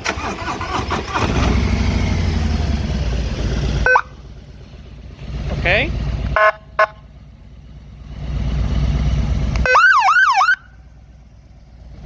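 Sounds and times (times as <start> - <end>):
motorcycle engine idling: 0.6 - 12.0.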